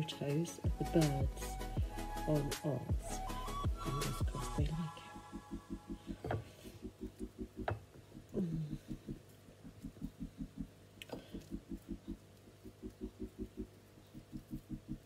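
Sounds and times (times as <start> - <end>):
music with pulsing beat: 0.6 - 7.8, 8.9 - 15.0.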